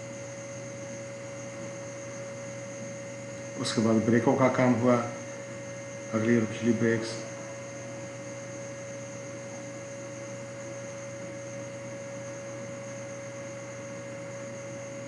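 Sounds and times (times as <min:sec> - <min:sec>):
electrical hum: 0:00.0 - 0:15.0
faint high whine: 0:00.0 - 0:15.0.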